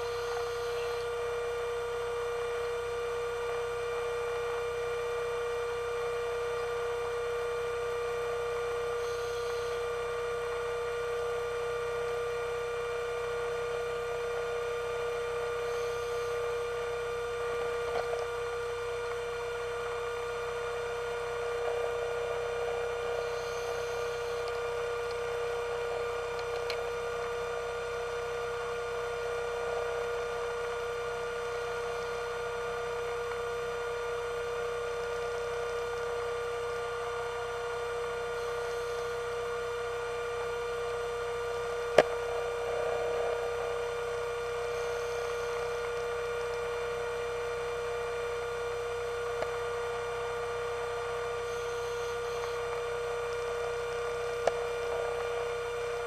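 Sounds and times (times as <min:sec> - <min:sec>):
underwater electric motor hum: 0:00.0 - 0:56.0.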